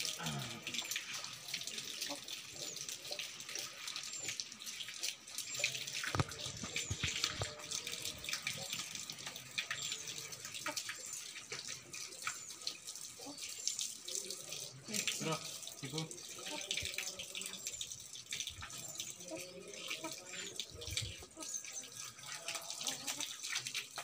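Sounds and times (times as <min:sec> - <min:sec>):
water splashing and dripping: 0:00.0 - 0:24.0.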